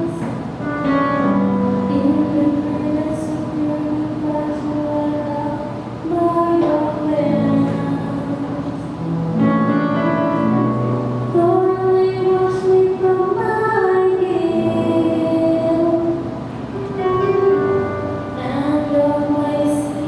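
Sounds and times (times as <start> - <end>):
accompanying music: 0.0 - 20.0.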